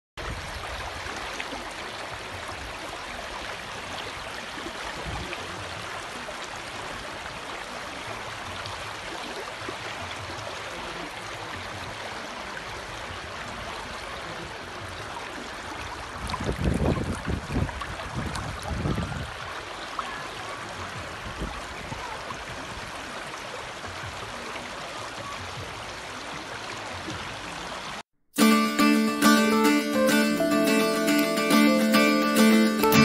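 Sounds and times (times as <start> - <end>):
mountain stream rushing: 0.2 - 33.0.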